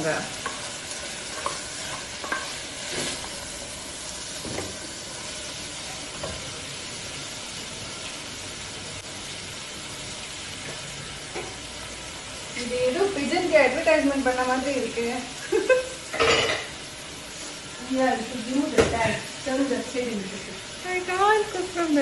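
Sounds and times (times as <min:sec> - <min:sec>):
onions sizzling in a pot: 0:00.0 - 0:22.0.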